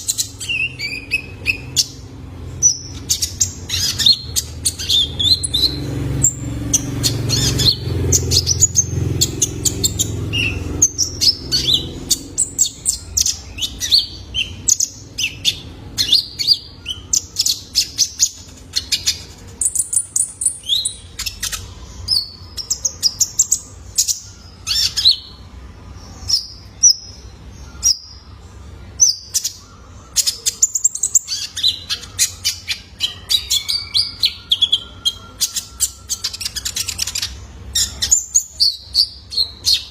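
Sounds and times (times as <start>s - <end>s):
low background hum: 0.0s - 39.9s
sunbird singing high chirps: 0.0s - 39.9s.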